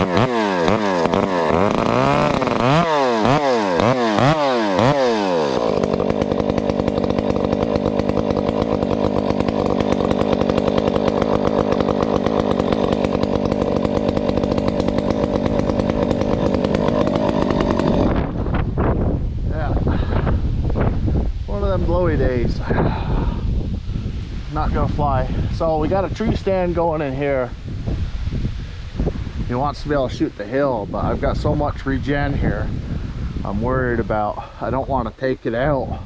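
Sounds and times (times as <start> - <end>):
chainsaw revving: 0.0 - 36.0.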